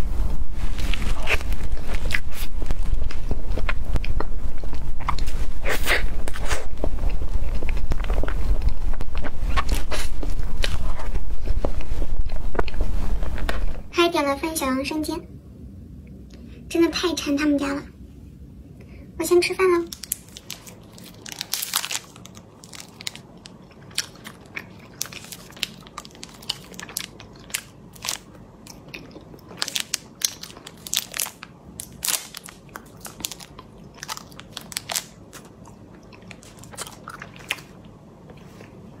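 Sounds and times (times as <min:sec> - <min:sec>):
crunchy chewing of snack: 0:00.7 - 0:13.8, 0:19.9 - 0:38.8.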